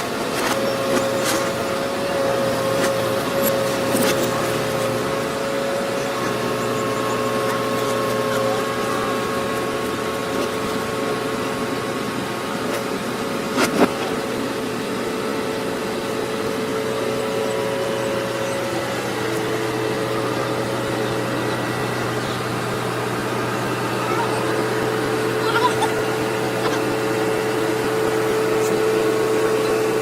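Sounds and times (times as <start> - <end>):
heavy machine engine droning: 0.0 - 30.0.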